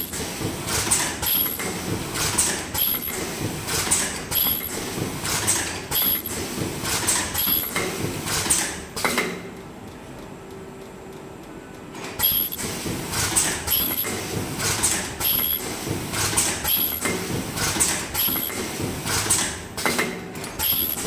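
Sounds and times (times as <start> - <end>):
welding machine clacks and hisses: 0.0 - 9.6, 11.8 - 21.0.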